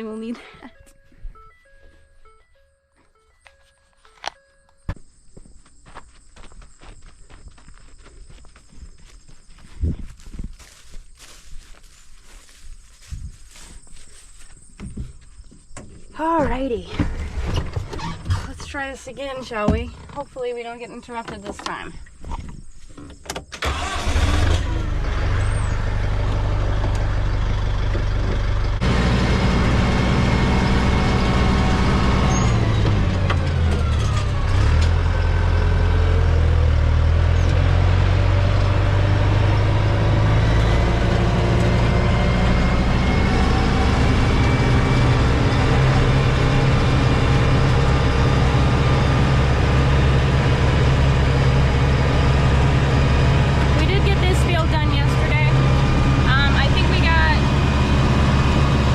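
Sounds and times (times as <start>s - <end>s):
tractor engine running: 9.0s - 58.9s.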